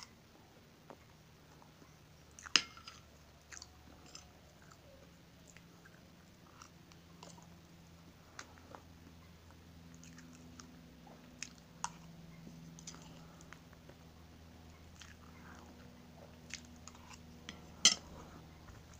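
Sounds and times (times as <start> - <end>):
chewing cake: 0.0 - 18.9.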